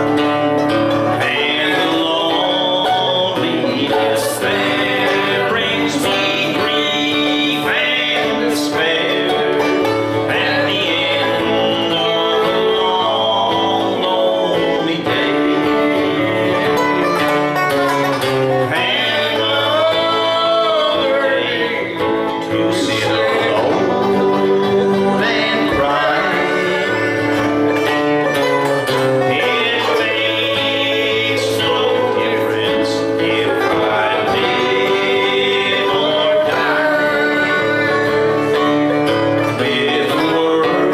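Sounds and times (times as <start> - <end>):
acoustic guitar strumming: 0.0 - 40.9
banjo picking: 0.0 - 40.9
person singing: 0.0 - 40.9.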